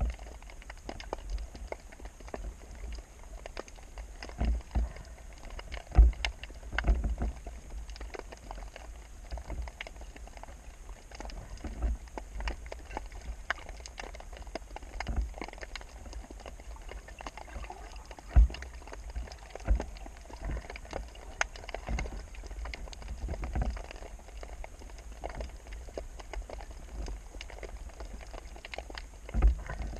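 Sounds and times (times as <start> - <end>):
low underwater rumble: 0.0 - 29.9
underwater clicks and knocks: 0.0 - 29.9.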